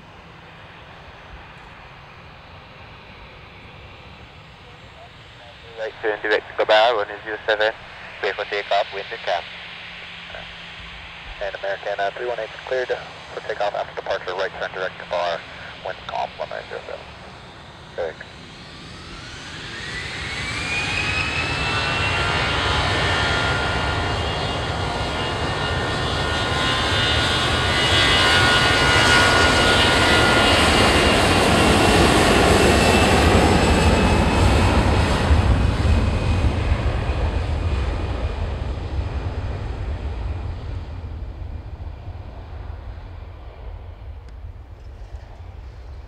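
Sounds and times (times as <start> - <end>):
jet noise: 0.0 - 46.0
jet engines spooling up: 0.6 - 46.0.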